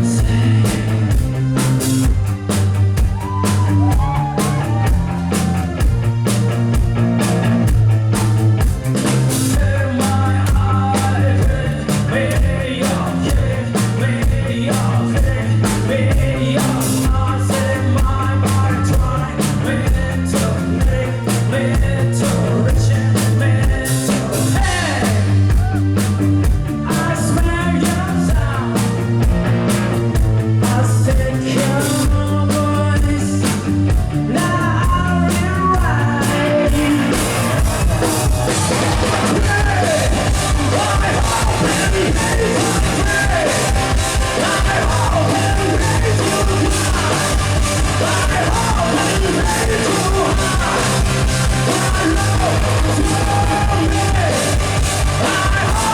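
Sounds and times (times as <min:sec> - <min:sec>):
live rock band: 0:00.0 - 0:55.9
person singing: 0:09.5 - 0:29.2, 0:30.6 - 0:55.9.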